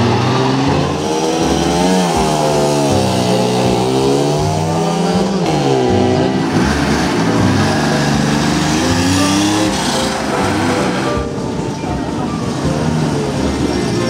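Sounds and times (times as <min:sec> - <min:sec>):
motorcycle engine pulling away: 0:00.0 - 0:11.4
car engine revving and accelerating: 0:00.0 - 0:11.6.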